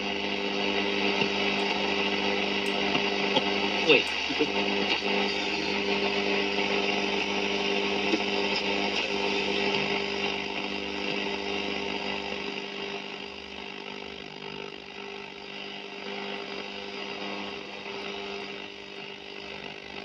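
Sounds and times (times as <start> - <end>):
radio static hiss: 0.0 - 20.0
steady buzzing hum: 0.0 - 20.0.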